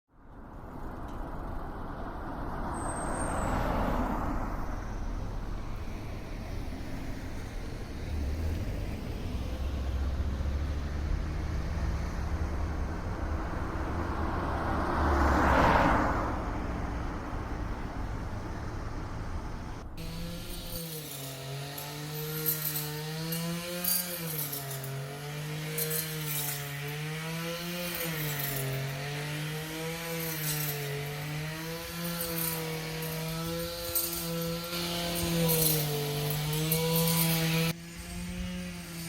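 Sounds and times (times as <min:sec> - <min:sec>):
low traffic rumble: 0:00.1 - 0:39.0
vehicle passing: 0:00.7 - 0:39.0.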